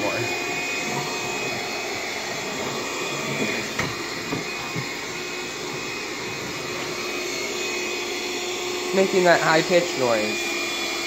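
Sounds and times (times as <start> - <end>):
stick vacuum running: 0.0 - 11.0.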